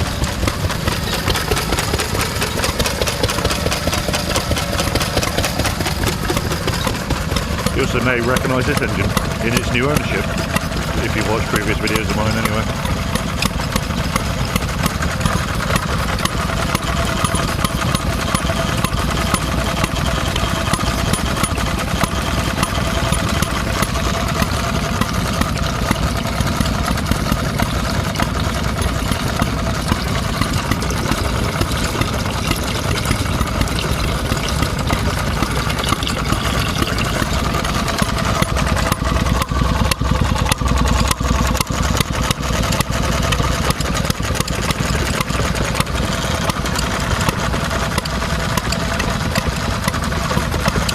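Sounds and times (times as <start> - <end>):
stationary engine running: 0.0 - 50.9.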